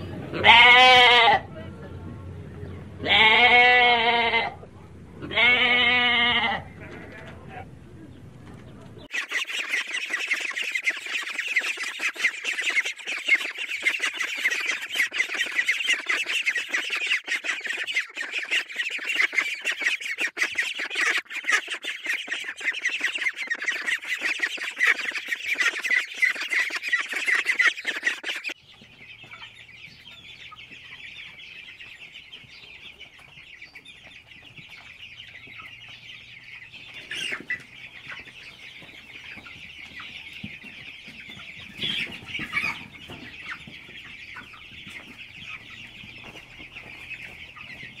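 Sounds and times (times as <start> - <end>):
young chickens peeping: 0.0 - 48.0
ducklings peeping: 4.6 - 48.0.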